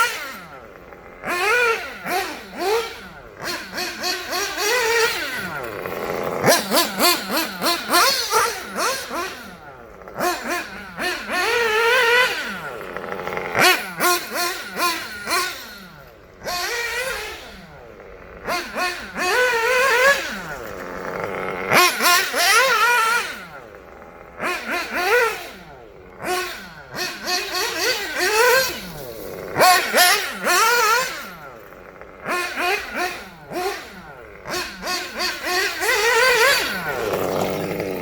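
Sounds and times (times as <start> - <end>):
small nitro engine revving: 0.0 - 38.0.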